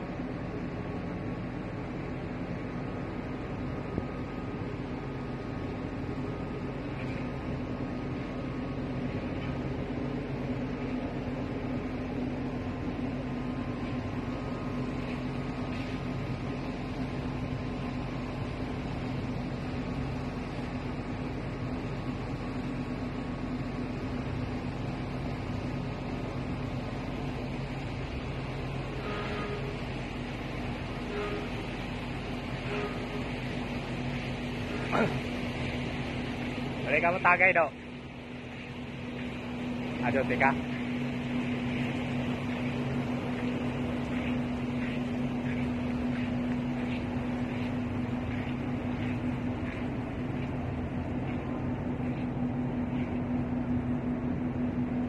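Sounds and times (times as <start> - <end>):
boat engine humming: 0.0 - 55.0
steady hiss: 8.1 - 53.5.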